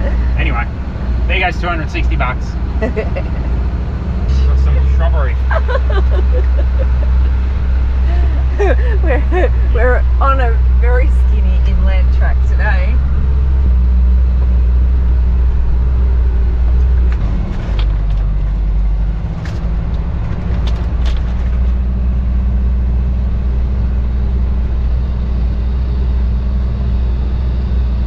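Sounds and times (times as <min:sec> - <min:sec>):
truck engine rumble: 0:00.0 - 0:28.0.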